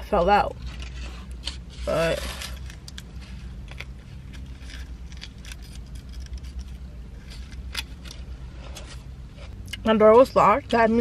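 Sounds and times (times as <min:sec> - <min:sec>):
steady low hum: 0:00.0 - 0:11.0
biting and chewing food: 0:00.6 - 0:09.8.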